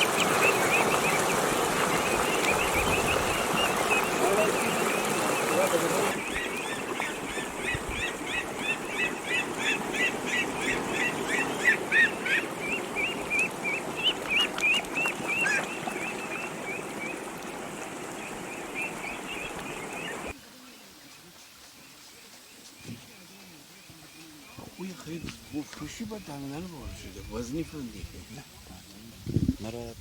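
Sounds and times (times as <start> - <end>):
small birds chirping: 0.0 - 29.8.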